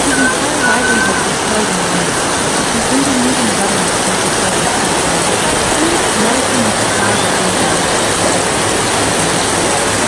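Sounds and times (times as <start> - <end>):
heavy rain and floodwater rushing: 0.0 - 10.0.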